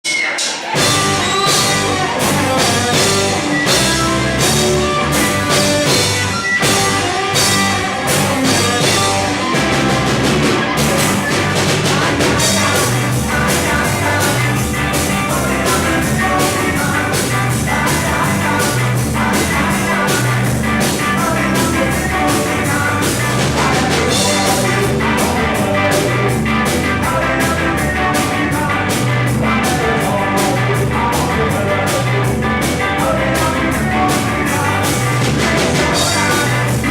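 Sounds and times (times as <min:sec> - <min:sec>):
drum kit: 0:00.0 - 0:36.9
electric guitars: 0:00.6 - 0:36.9
bass guitar: 0:00.7 - 0:36.9.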